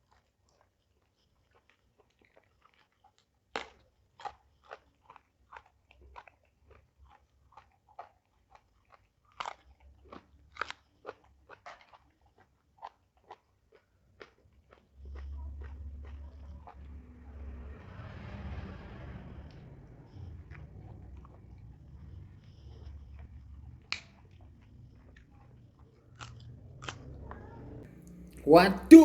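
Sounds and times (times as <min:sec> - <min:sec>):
chewing and crunching food: 0:00.0 - 0:28.5.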